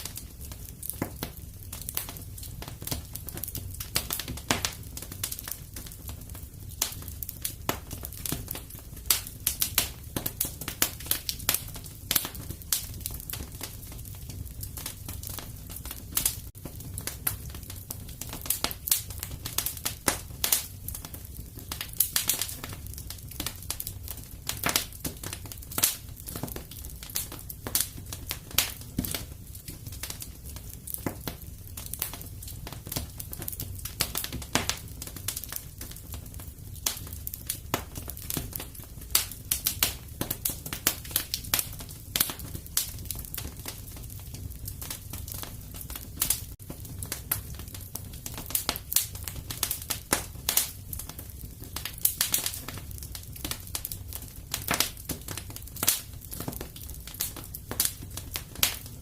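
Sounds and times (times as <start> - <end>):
wood fire crackling in fireplace: 0.0 - 59.0.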